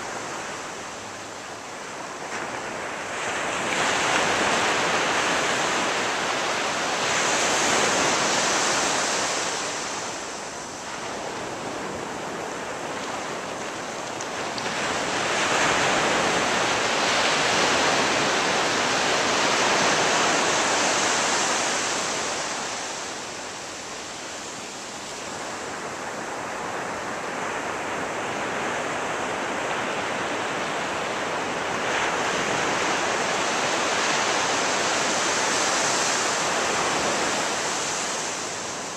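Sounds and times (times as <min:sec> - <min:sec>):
ocean surf on a beach: 0:00.0 - 0:38.9.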